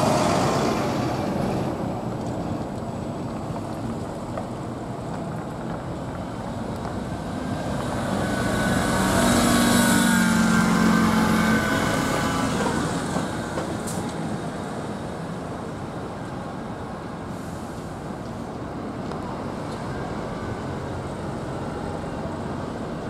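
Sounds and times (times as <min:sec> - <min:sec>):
passing vehicle rumble: 0:00.0 - 0:23.0.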